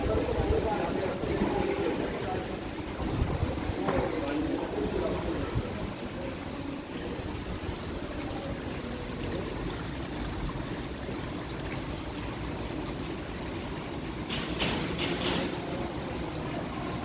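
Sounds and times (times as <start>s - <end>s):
fountain water trickling: 0.0s - 17.0s.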